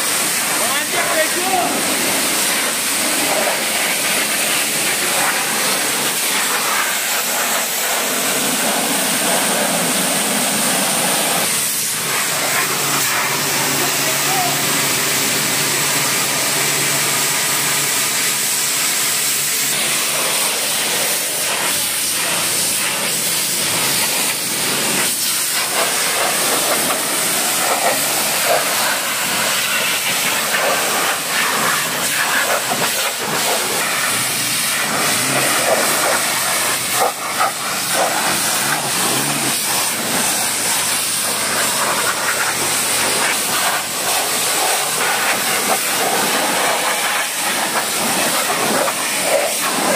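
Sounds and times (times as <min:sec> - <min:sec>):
pressure washer spraying car: 0:00.0 - 0:49.9.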